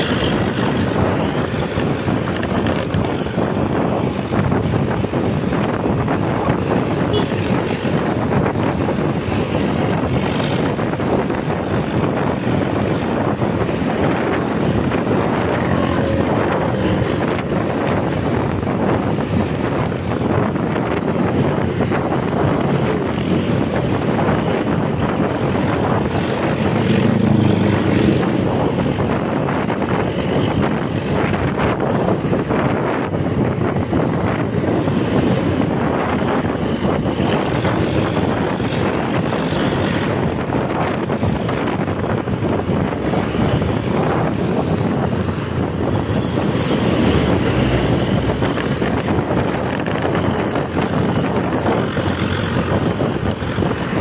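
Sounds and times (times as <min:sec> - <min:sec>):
bus engine running hard: 0:00.0 - 0:54.0.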